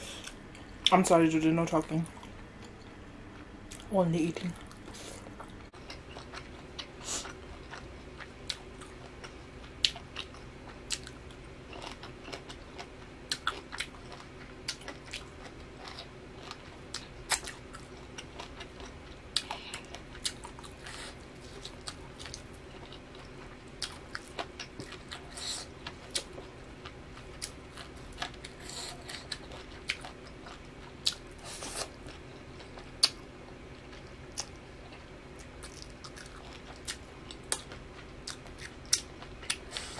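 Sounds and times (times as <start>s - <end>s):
faint steady hum: 0.0s - 39.9s
chewing with wet mouth clicks: 4.6s - 33.2s, 33.8s - 39.9s.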